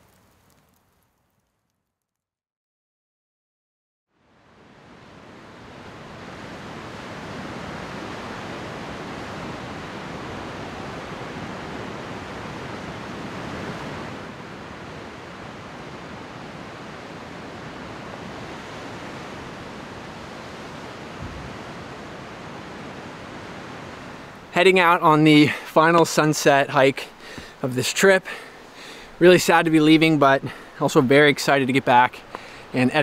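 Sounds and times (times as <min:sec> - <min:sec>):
surf washing among rocks: 0:04.9 - 0:33.0.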